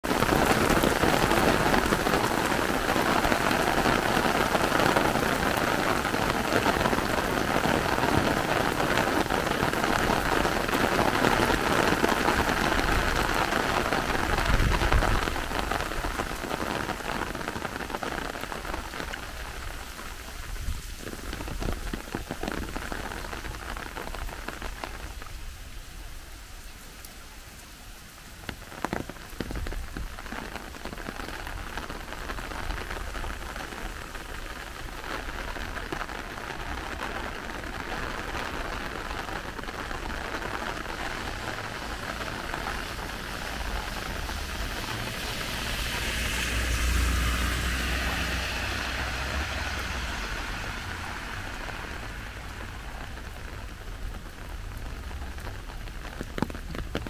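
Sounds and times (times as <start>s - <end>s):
rain drumming on umbrella: 0.0s - 57.0s
rain splashing on pavement: 0.0s - 57.0s.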